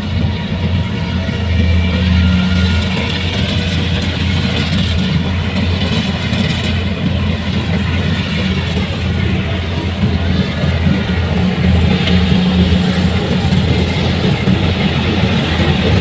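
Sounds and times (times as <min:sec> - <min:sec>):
combine harvester engine running: 0:00.0 - 0:16.0.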